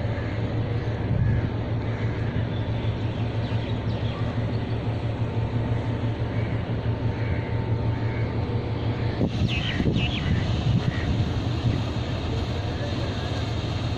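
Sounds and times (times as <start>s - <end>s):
boat engine drone: 0.0s - 13.9s
noisy rumble: 0.0s - 13.9s.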